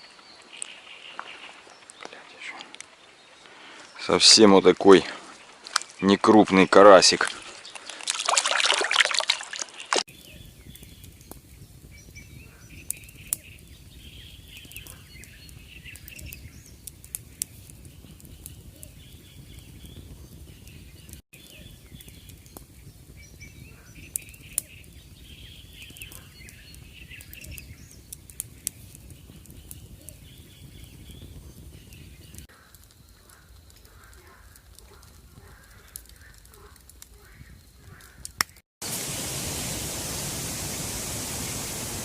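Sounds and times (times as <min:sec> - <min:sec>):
birds chirping: 0:00.0 - 0:08.1, 0:09.4 - 0:38.4.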